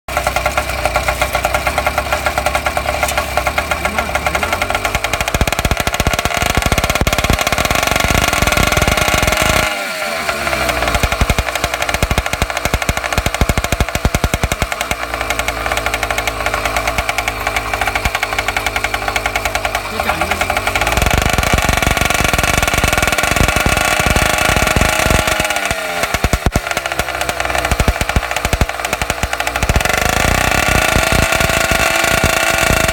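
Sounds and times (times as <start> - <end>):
small engine revving: 0.1 - 32.9.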